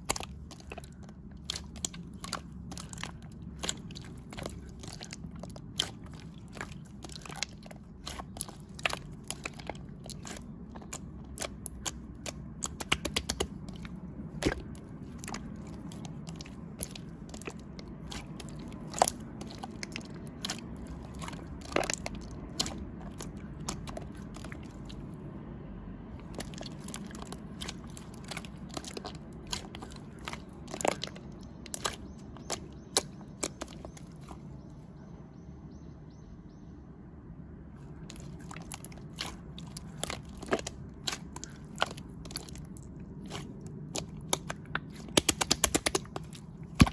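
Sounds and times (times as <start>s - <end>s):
crunchy food chewing: 0.0s - 25.2s, 26.1s - 34.6s, 37.8s - 46.9s
steady low hum: 0.0s - 46.9s.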